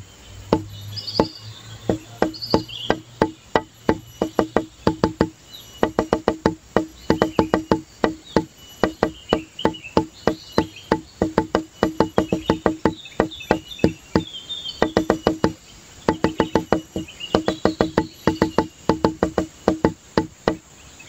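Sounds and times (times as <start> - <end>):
high chirping: 0.0 - 21.0
wood block percussion music: 0.5 - 20.7.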